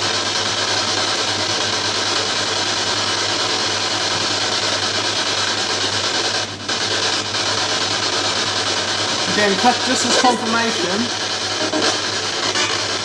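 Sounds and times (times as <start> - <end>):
radio static hiss: 0.7 - 13.0.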